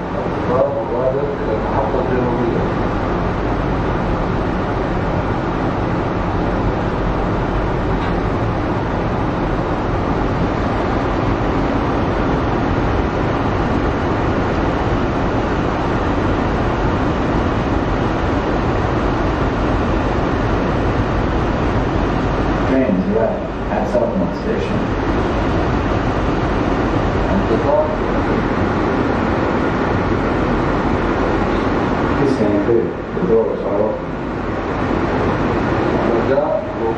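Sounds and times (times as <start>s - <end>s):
people-mover car running noise: 0.0s - 36.9s.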